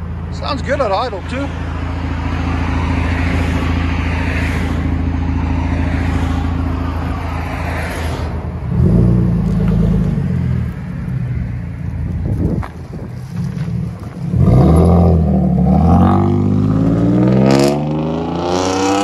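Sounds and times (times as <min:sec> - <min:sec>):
truck exhaust idling and revving: 0:00.0 - 0:19.0.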